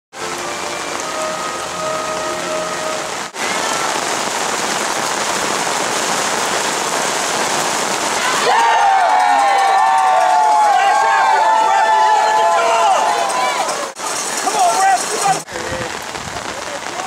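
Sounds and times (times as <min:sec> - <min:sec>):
rain hissing: 0:00.2 - 0:17.0.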